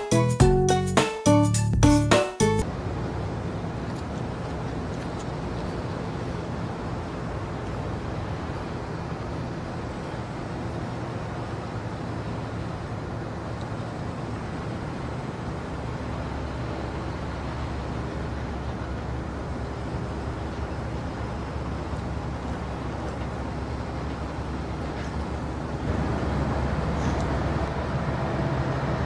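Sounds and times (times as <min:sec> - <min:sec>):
traffic rumble: 0:02.6 - 0:29.0.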